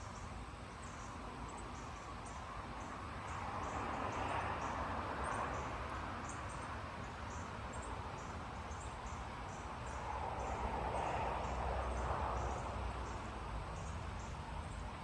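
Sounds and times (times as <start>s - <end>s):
insects chirping: 0.0s - 14.8s.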